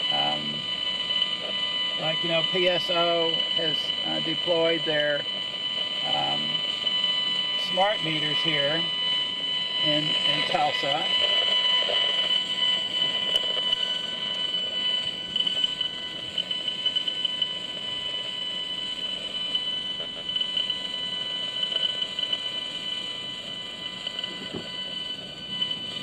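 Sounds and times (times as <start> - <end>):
electronic crackle: 0.0 - 26.0
high-pitched buzzing tone: 0.0 - 26.0.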